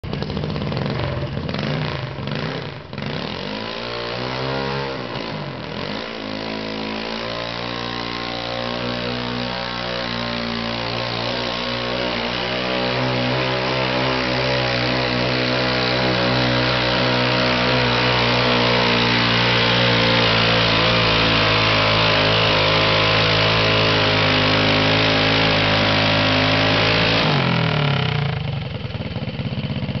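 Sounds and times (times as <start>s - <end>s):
garden tractor engine revving: 0.0s - 30.0s.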